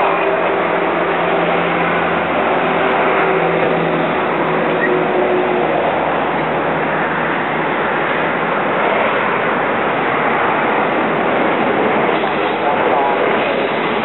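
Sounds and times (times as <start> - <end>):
train wheels rolling on track: 0.0 - 14.0.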